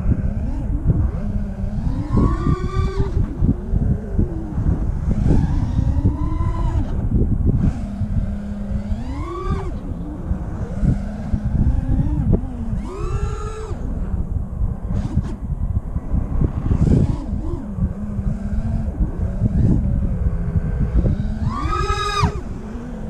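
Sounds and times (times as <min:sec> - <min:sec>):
quadcopter motors whining: 0:00.0 - 0:23.0
wind rush on microphone: 0:00.0 - 0:23.0.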